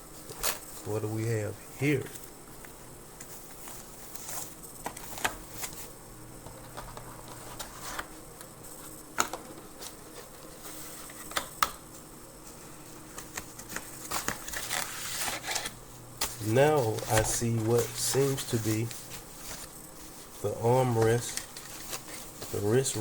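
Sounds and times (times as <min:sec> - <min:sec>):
steady low hum: 0:00.0 - 0:23.0
packaging being handled: 0:01.9 - 0:11.7, 0:12.4 - 0:23.0.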